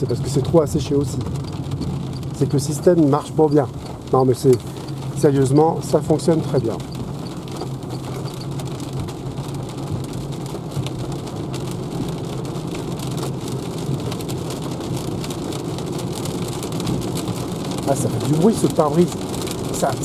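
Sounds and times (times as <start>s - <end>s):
raindrops hitting windshield: 0.0s - 20.0s
tyres on wet road: 0.0s - 20.0s.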